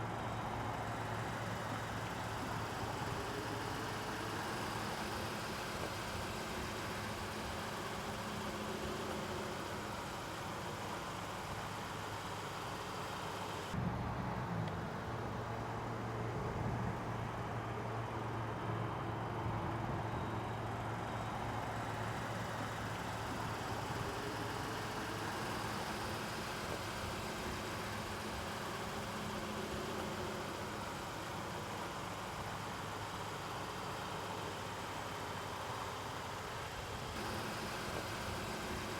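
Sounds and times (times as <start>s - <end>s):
vehicle engine idling: 0.0s - 13.8s, 14.8s - 38.9s.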